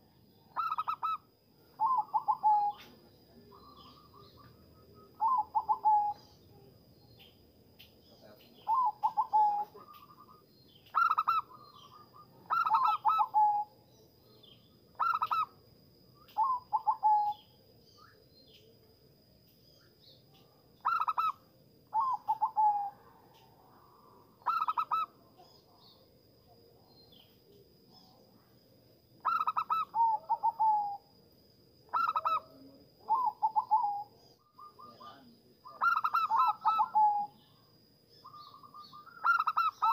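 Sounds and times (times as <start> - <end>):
dove trilling coos: 0.0 - 7.3, 8.2 - 15.6, 16.2 - 18.2, 20.4 - 26.1, 29.2 - 31.2, 31.9 - 39.9.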